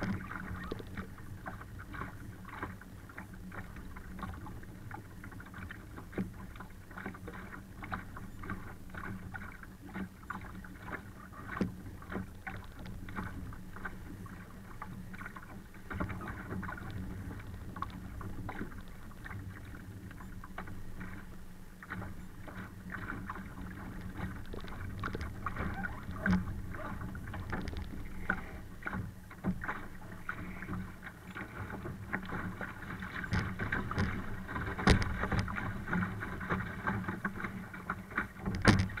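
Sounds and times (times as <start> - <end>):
water rushing against hull: 0.0 - 39.0
water slaps and knocks: 0.0 - 39.0.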